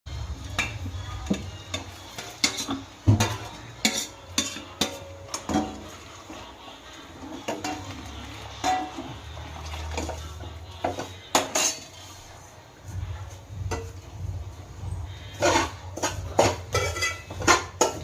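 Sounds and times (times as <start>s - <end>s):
metal spoon scraping a pot: 0.5s - 12.4s, 14.8s - 18.0s.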